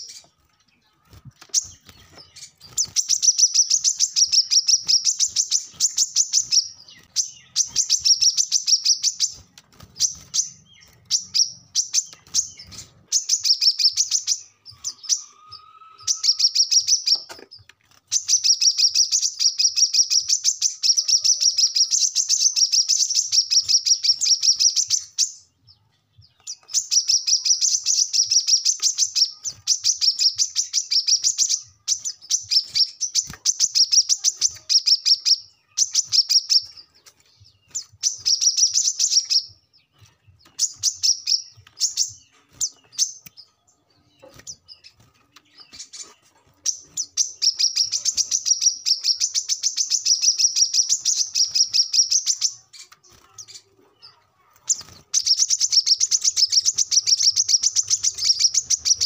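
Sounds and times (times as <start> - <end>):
bird singing chattering chips: 0.0 - 59.0.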